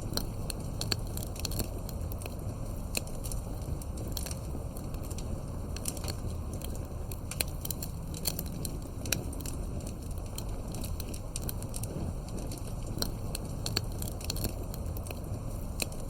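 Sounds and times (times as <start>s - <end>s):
fireplace crackling: 0.0s - 16.0s
low steady rumble: 0.0s - 16.0s.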